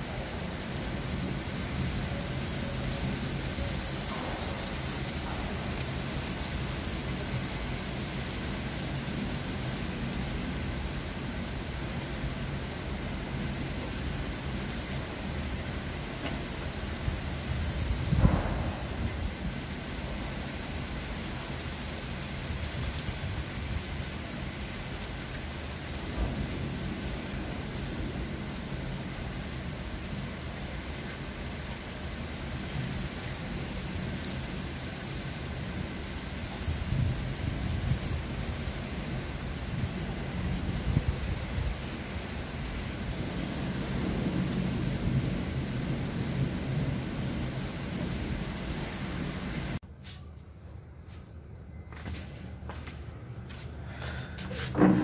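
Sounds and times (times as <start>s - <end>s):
steady rain on pavement: 0.0s - 49.9s, 53.8s - 55.0s.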